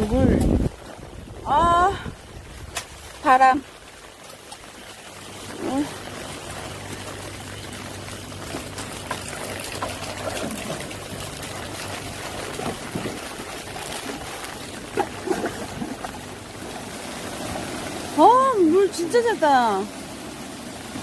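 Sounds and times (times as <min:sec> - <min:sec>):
water rushing into channel: 0:00.0 - 0:21.0.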